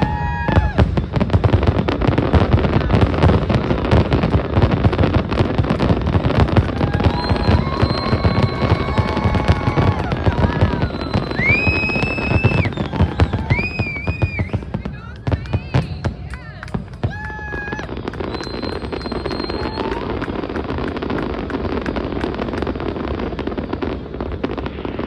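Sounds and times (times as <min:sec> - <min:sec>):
firework whistles: 0:00.0 - 0:16.3, 0:17.1 - 0:25.0
fireworks crackling and booming: 0:00.0 - 0:25.0.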